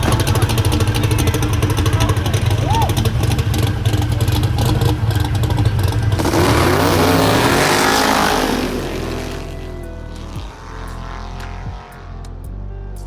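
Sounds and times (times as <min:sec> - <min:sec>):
drag racing car engine accelerating: 0:00.0 - 0:12.4.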